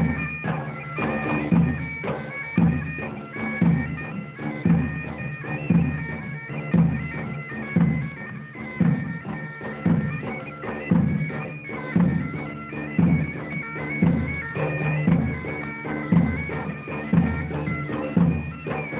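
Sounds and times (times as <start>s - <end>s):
bagpipes playing melody: 0.0s - 18.9s.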